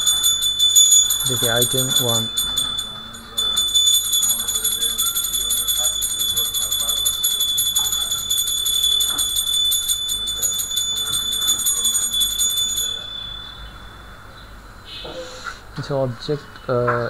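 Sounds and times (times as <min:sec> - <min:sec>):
pulsing high-pitched ringing tone: 0:00.0 - 0:15.0.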